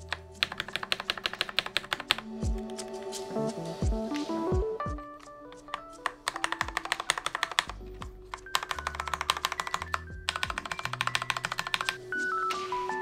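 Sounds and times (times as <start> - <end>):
background music: 0.0 - 13.0
keyboard keys clacking: 0.0 - 13.0.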